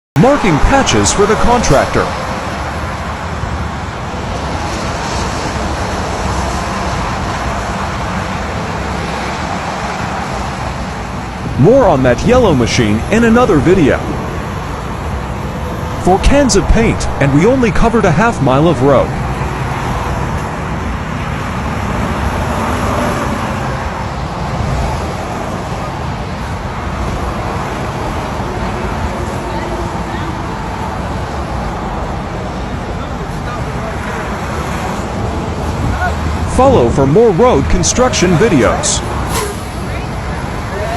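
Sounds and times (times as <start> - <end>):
vehicle and road noise: 0.1 - 40.9.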